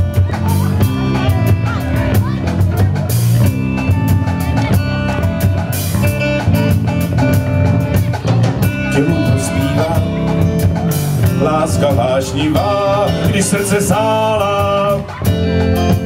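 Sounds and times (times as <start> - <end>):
drum kit beat: 0.0 - 16.0
electric guitars: 0.0 - 16.0.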